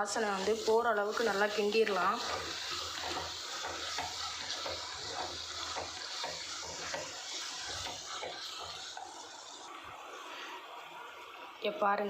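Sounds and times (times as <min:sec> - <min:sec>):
spices sizzling in oil: 0:00.0 - 0:12.0.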